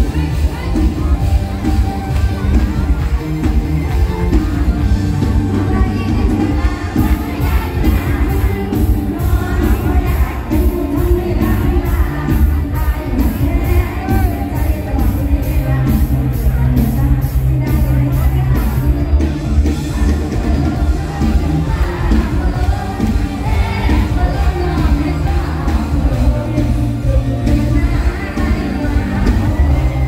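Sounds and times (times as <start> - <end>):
heavy bass: 0.0 - 30.0
live band through loudspeakers: 0.0 - 30.0
person singing: 0.0 - 30.0.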